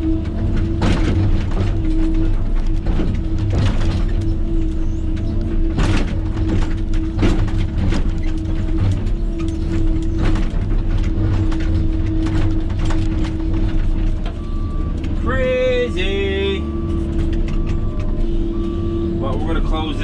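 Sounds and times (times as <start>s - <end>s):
excavator diesel engine humming: 0.0s - 20.0s.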